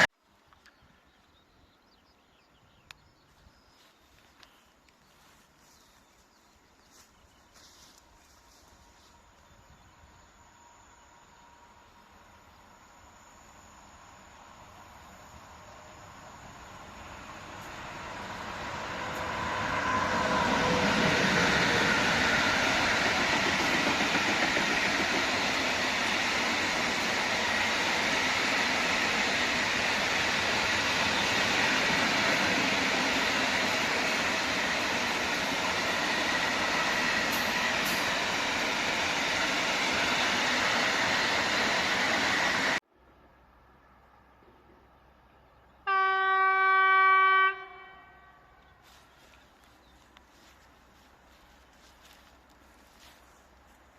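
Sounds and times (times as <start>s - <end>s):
train passing: 3.2s - 53.9s.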